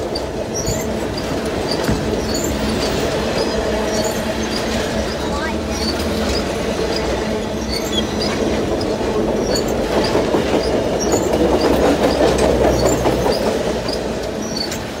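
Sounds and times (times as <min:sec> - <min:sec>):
railcars rumbling past: 0:00.0 - 0:15.0
wheels clattering over rail joints: 0:00.0 - 0:15.0.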